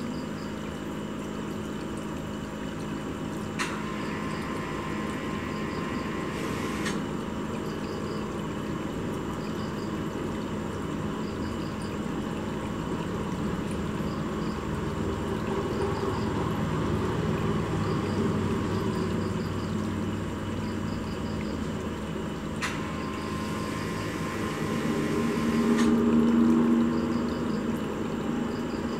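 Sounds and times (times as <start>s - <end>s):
aquarium pump humming: 0.0s - 28.9s
rushing water: 0.0s - 28.9s.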